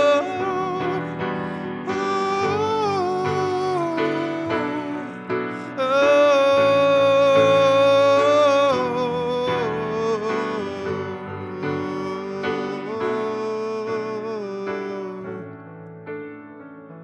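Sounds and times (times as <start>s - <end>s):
grand piano playing slow chords: 0.0s - 17.0s.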